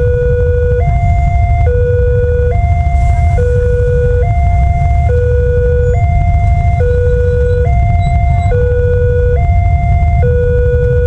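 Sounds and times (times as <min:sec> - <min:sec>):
level crossing two-tone alarm: 0:00.0 - 0:11.0
low rumble: 0:00.0 - 0:11.0.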